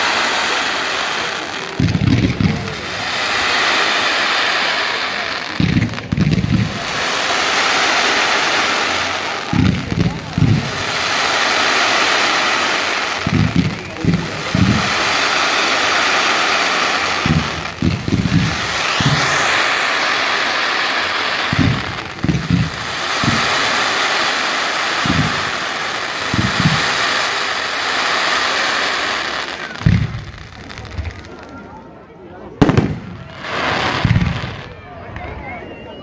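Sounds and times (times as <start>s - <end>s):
rising firework whistle: 0.0s - 31.7s, 32.6s - 36.0s
fireworks crackling hiss: 0.0s - 35.4s.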